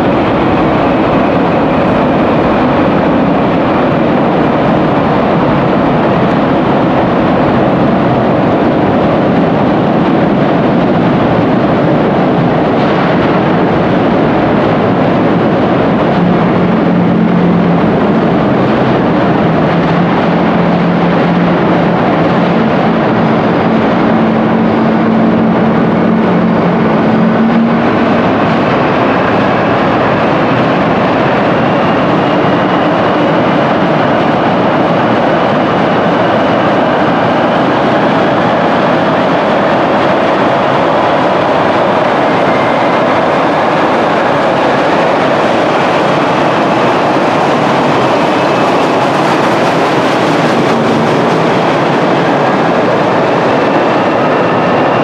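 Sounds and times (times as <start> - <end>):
work train running: 0.0 - 55.0.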